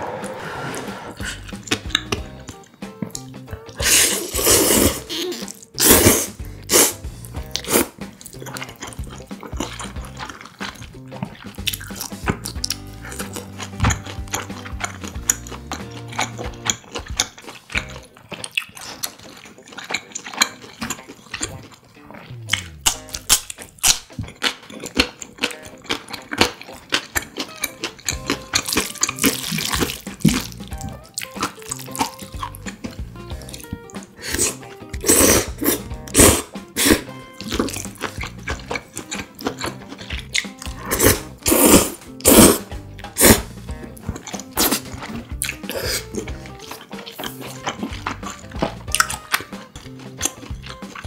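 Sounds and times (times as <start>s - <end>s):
wet noodle slurping sounds: 0.0s - 1.9s, 3.8s - 30.8s, 33.4s - 49.1s
wet chewing and mouth clicks: 1.2s - 51.0s.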